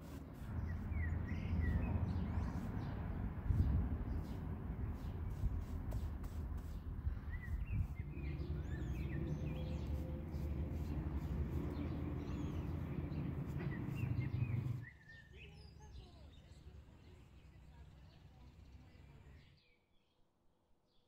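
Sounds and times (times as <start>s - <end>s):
birds chirping: 0.4s - 19.8s.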